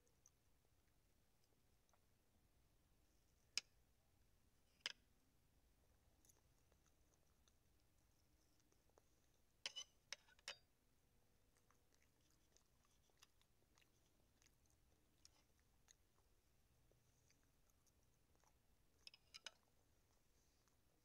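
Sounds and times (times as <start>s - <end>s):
quiet eating sounds: 0.0s - 21.0s.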